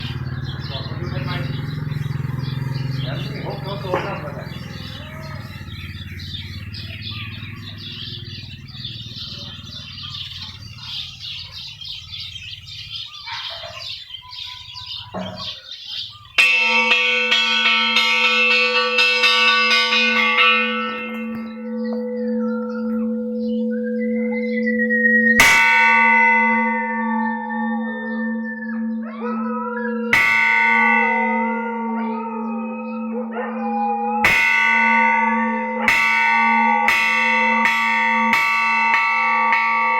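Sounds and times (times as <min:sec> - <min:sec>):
large temple bell ringing: 0:00.0 - 0:13.2, 0:13.8 - 0:39.9
birds chirping: 0:00.0 - 0:39.9.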